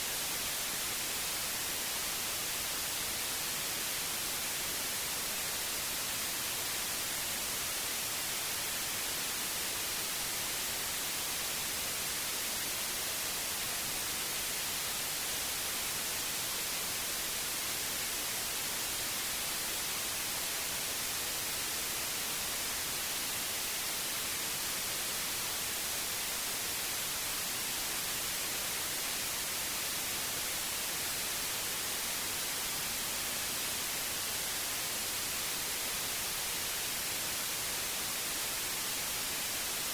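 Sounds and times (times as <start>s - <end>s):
electronic white noise hiss: 0.0s - 39.9s.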